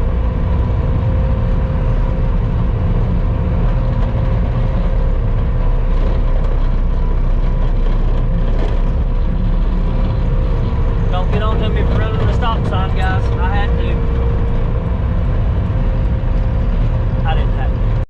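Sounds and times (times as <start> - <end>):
steady whine: 0.0 - 18.0
vehicle engine rumbling: 0.0 - 18.0.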